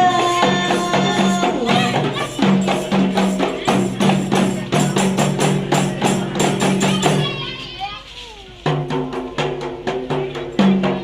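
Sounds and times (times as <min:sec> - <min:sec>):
frame drum strokes: 0:00.0 - 0:11.0.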